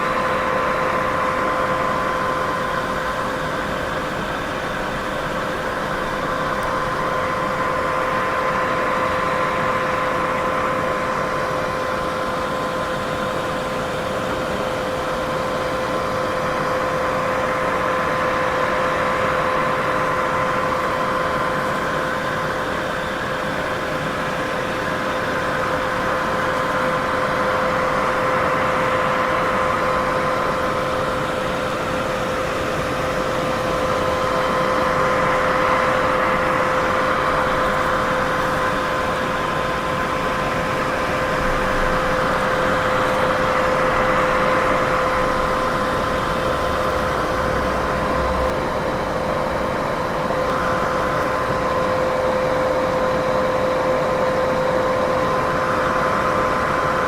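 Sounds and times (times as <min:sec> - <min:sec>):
steady white noise: 0:00.0 - 0:57.0.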